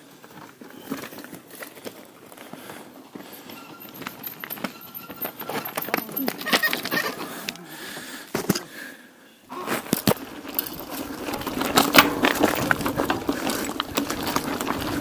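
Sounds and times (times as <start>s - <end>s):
mountain bike rattling over rough ground: 0.0s - 8.6s, 9.6s - 15.0s.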